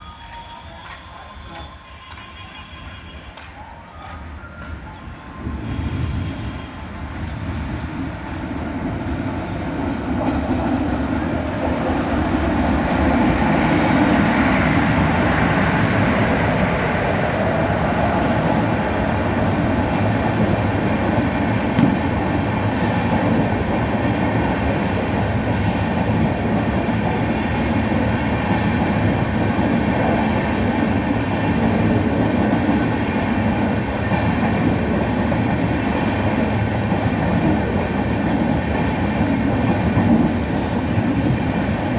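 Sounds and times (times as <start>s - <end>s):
train wheels rumbling past: 4.7s - 41.9s.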